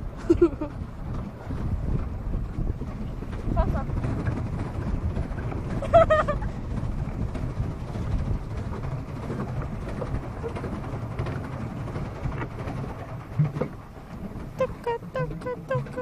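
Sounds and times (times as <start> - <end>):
water around a paddle boat: 0.0 - 16.0
wind rumbling: 0.0 - 16.0.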